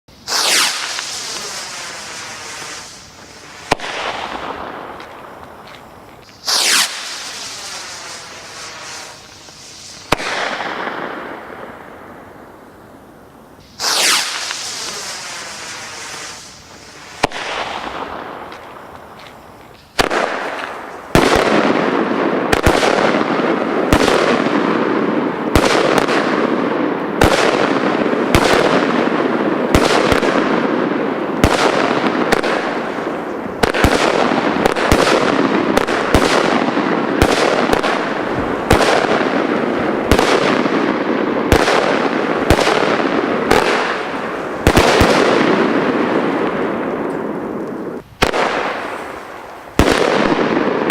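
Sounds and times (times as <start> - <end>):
firework hiss: 0.1 - 50.9
firework shots: 0.1 - 50.9.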